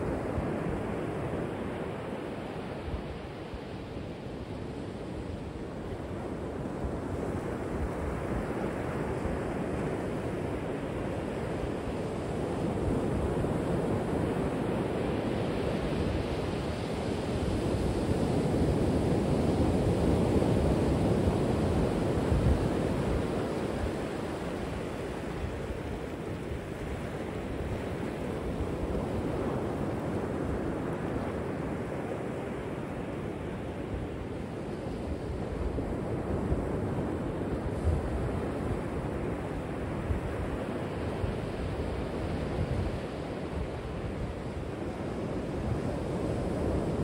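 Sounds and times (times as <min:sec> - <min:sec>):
ocean waves breaking: 0:06.6 - 0:47.0.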